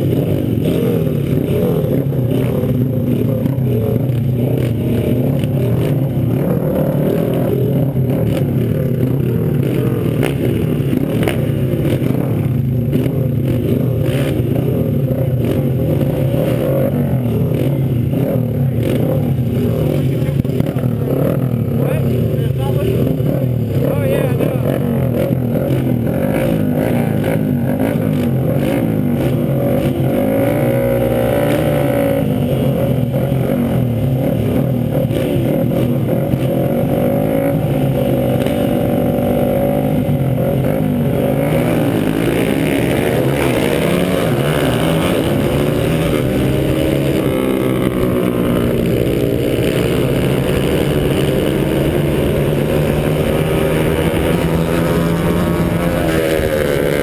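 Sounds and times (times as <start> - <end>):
dirt bike engine revving: 0.0 - 57.0
other motorbikes running: 0.0 - 57.0.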